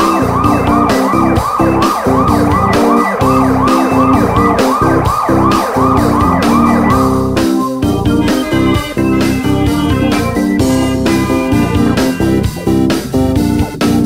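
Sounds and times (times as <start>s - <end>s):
siren yelping: 0.0s - 12.4s
electronic music with beat: 0.0s - 14.0s.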